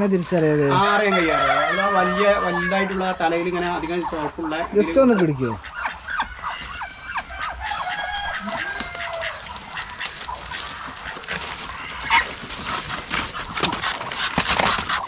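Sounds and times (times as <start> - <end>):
chickens clucking and squawking: 0.3 - 15.0.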